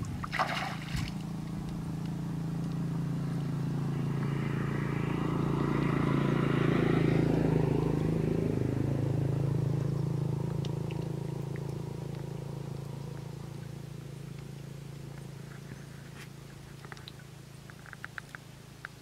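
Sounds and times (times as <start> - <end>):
vehicle engine passing: 0.0 - 17.5.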